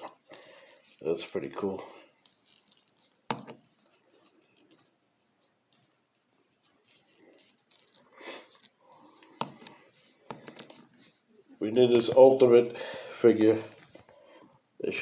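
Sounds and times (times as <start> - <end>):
plastic figure handling: 0.0 - 14.5.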